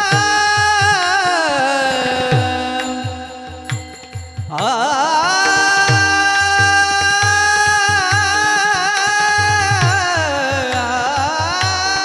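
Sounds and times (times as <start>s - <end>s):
drum beating steadily: 0.0s - 12.0s.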